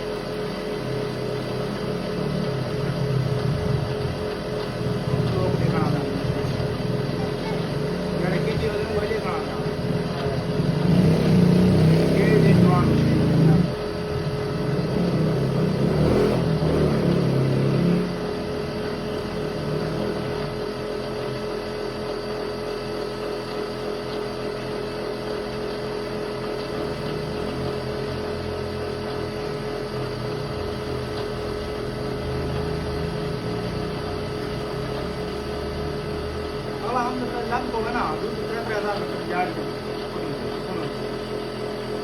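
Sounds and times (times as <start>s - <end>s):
grinding machine humming: 0.0s - 42.0s.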